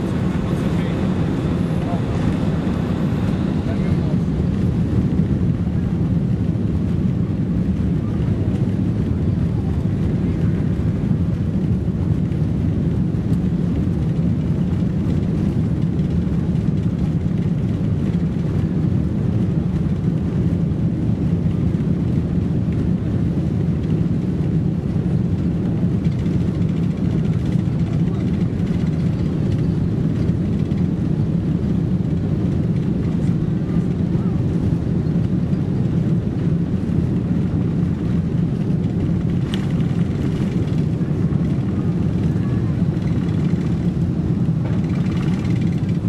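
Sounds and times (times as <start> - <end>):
airplane cabin rumble: 0.0 - 46.0.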